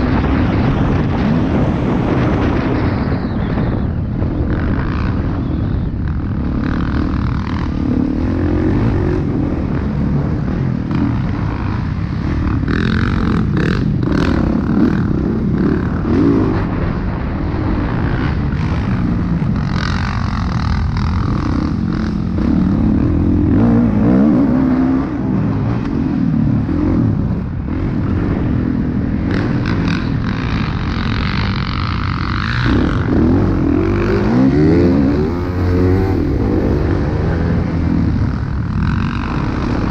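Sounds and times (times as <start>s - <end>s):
dirt bike engine revving: 3.5s - 39.9s.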